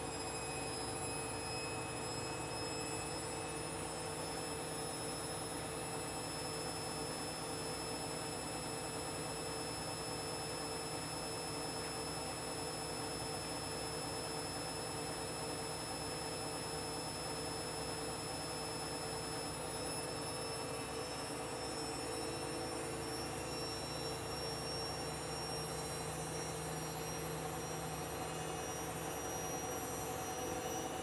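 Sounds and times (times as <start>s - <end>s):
washing machine hum: 0.0s - 31.0s.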